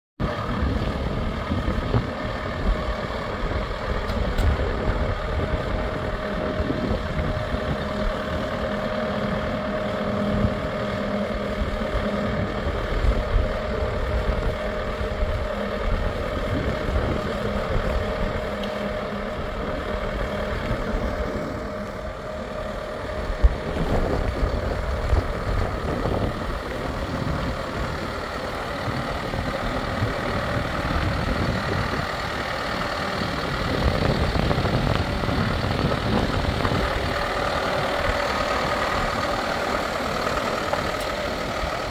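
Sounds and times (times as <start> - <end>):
tractor diesel engine idling: 0.2 - 41.9.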